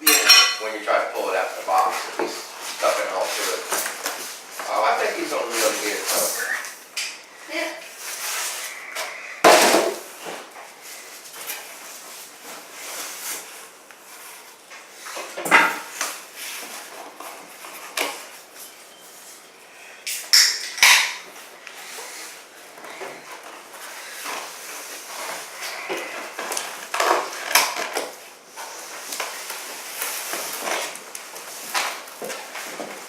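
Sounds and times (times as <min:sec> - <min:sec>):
styrofoam and cardboard rustling: 0:01.0 - 0:06.8, 0:07.5 - 0:19.4, 0:21.3 - 0:33.0.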